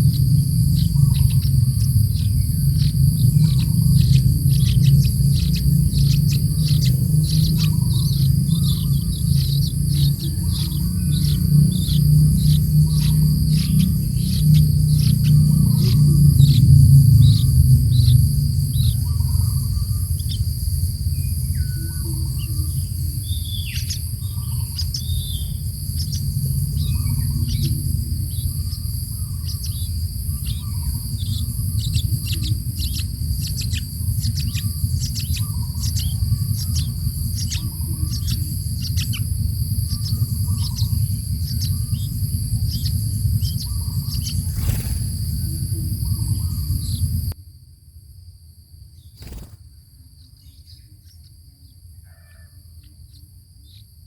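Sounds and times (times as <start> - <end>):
bird chirping falling notes: 0.0 - 47.3
low rumble: 0.0 - 47.4
insect drone: 0.0 - 54.0.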